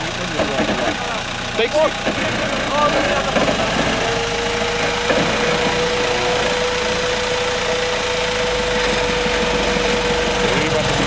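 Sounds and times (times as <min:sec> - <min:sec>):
steady whine: 0:00.0 - 0:11.0
truck engine at low revs: 0:00.0 - 0:11.0.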